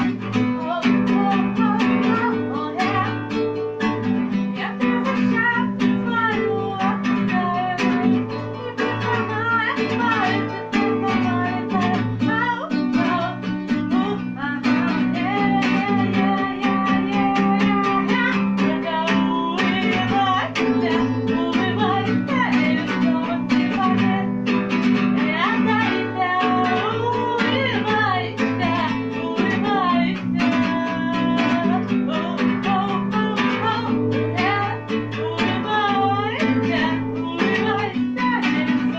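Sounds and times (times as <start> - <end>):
acoustic guitar strumming: 0.0 - 38.9
person singing: 0.0 - 38.9.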